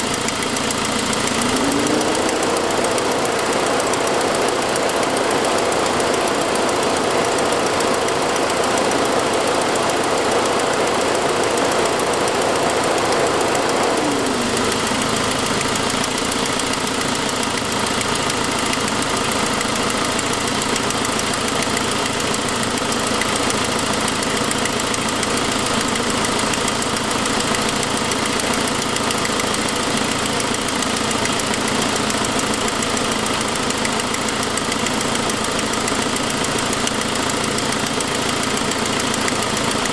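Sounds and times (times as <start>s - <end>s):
car engine idling: 0.0s - 39.9s
exhaust leak ticking: 0.0s - 39.9s.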